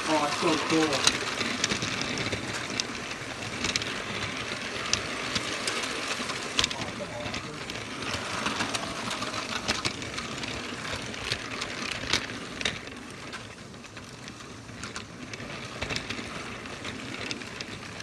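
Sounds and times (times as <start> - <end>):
toy train motor whirring: 0.0 - 18.0
wheels clattering on plastic rails: 0.0 - 18.0.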